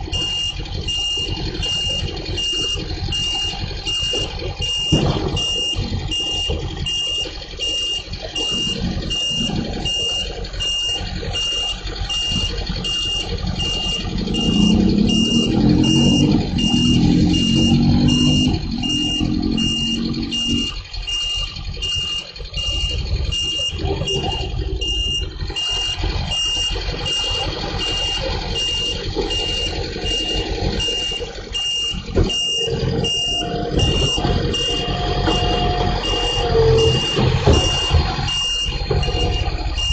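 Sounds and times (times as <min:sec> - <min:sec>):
garbage truck engine running: 0:00.0 - 0:39.9
high warning beeper: 0:00.0 - 0:39.9.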